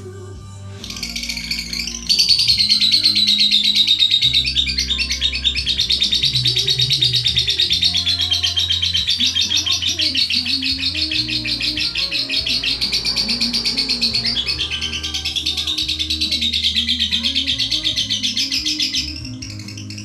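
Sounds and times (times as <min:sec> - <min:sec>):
background music: 0:00.0 - 0:20.0
lovebird rapid high chirps: 0:00.8 - 0:20.0.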